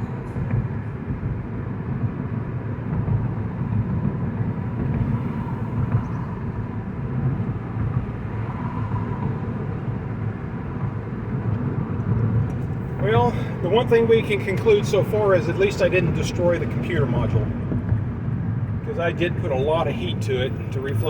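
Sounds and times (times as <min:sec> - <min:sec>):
engine and road rumble in car: 0:00.0 - 0:21.0.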